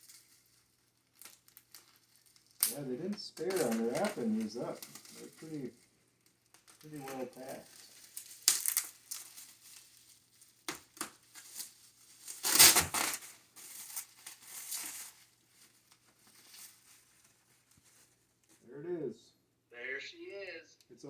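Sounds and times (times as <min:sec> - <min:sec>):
packaging wrap crinkling and tearing: 0:00.0 - 0:18.2.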